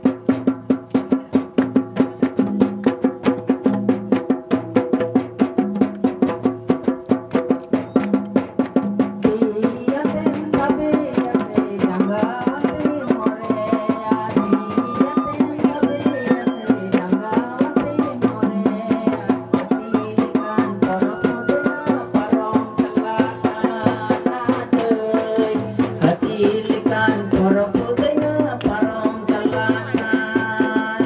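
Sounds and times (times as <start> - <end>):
quick drumbeat: 0.0 - 31.0.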